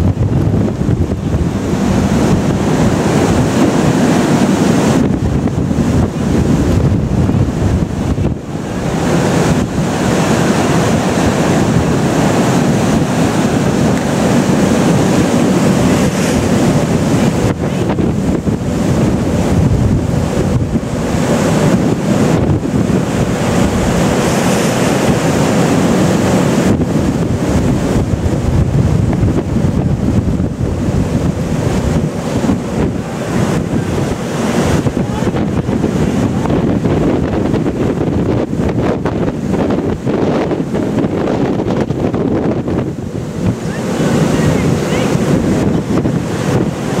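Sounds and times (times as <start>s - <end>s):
wind buffeting the microphone: 0.0s - 47.0s
seas breaking along a hull: 0.2s - 47.0s.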